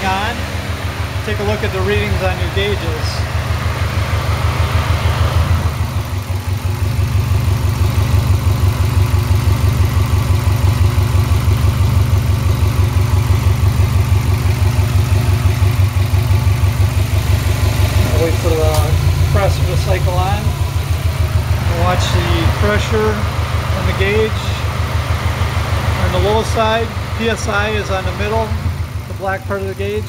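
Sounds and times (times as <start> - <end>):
air-conditioning compressor running: 0.0 - 30.0
car engine idling: 0.0 - 30.0.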